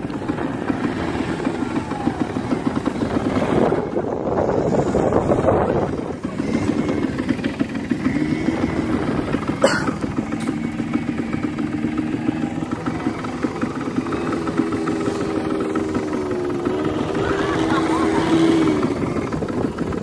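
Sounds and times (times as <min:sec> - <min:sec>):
quad bike engines running: 0:00.0 - 0:20.0.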